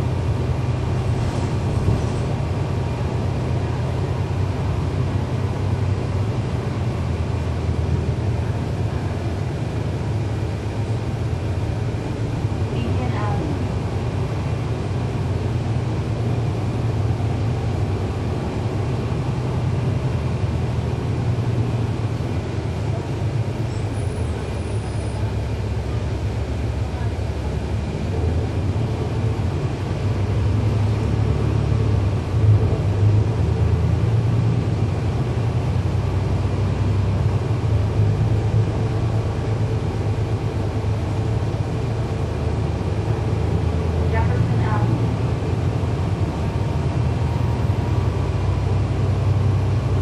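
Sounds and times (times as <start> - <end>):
bus engine rumble from inside: 0.0 - 50.0.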